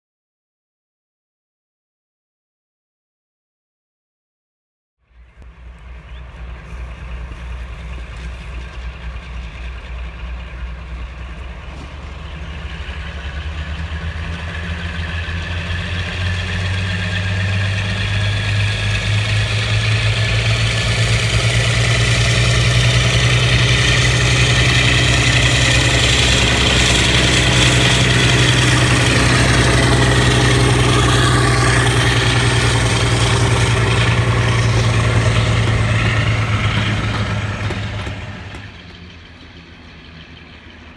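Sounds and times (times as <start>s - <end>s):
diesel locomotive engines under load: 5.0s - 40.9s
train coaches rolling by: 5.0s - 40.9s.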